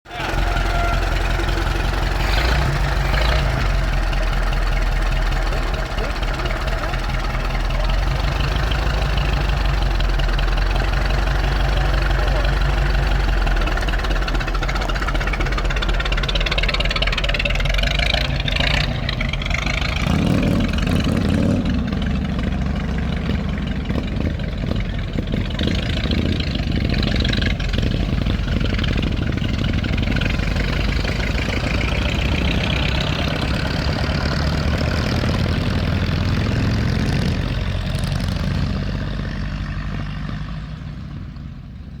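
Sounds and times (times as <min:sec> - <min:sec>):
car engine running: 0:00.0 - 0:42.0.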